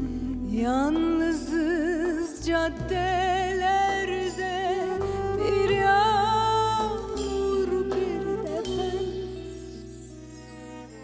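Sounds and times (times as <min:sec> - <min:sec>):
woman singing with vibrato: 0:00.0 - 0:10.0.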